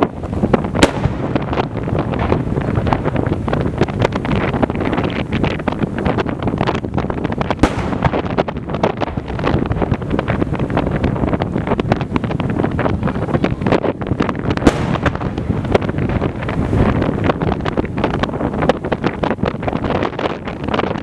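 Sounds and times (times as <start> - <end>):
heavy firework bangs: 0.0 - 20.2
fireworks crackling: 0.0 - 21.0
wind buffeting microphone: 0.0 - 21.0.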